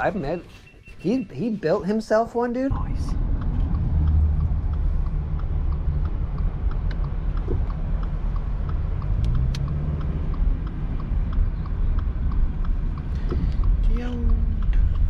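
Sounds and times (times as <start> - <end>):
road rumble: 0.0 - 15.0
vehicle engine: 2.7 - 15.0
faint regular ticking: 2.8 - 15.0.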